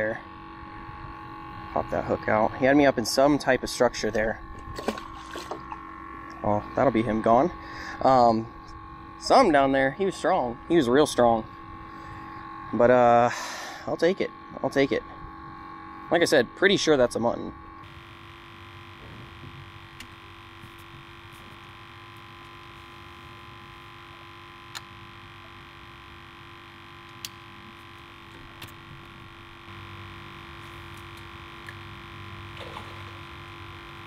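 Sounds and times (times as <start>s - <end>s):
electric trolling motor humming: 0.0s - 34.0s
low pulsing rumble: 0.0s - 34.0s.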